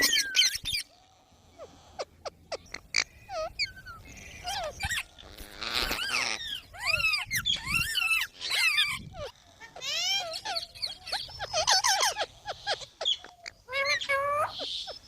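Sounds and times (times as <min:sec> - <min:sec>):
parrot squawking calls: 0:00.0 - 0:15.0.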